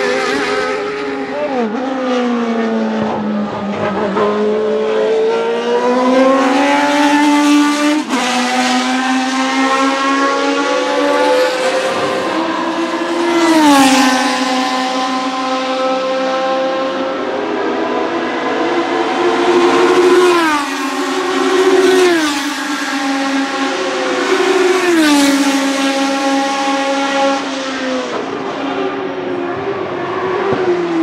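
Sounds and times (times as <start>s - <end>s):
racing car engine at high revs: 0.0s - 31.0s.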